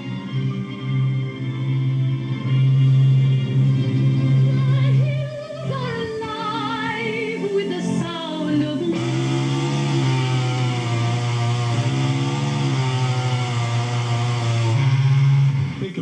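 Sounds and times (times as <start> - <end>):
music backing: 0.0 - 16.0.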